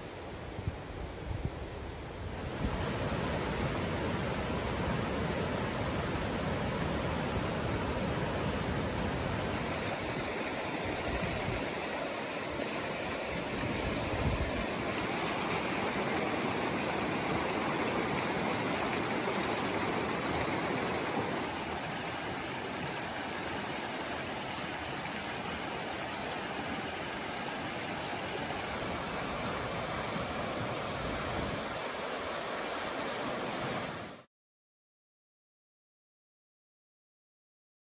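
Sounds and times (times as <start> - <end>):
river water rushing over rocks: 2.4 - 34.3.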